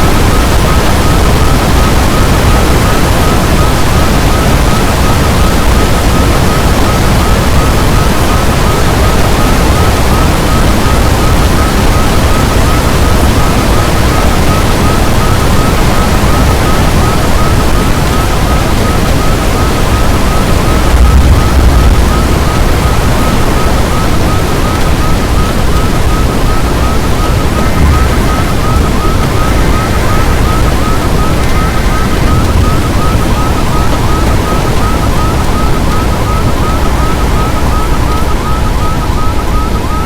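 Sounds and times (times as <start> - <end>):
strong wind buffeting microphone: 0.0 - 39.7.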